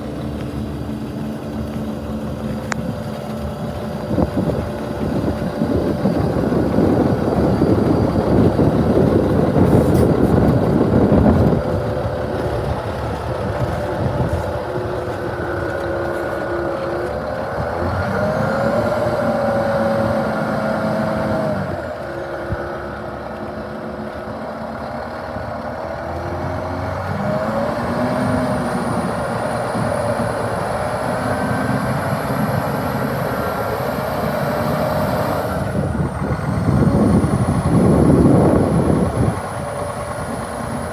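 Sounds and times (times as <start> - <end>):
diesel truck engine revving: 0.0 - 40.9.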